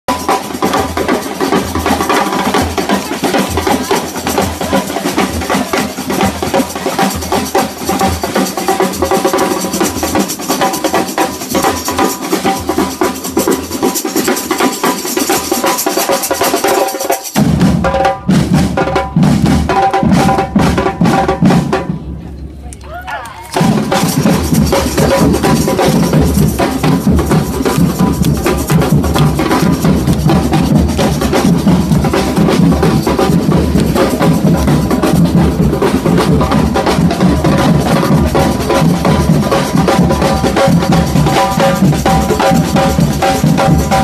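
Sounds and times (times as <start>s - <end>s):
samba percussion drums: 0.0s - 22.2s, 23.0s - 44.0s.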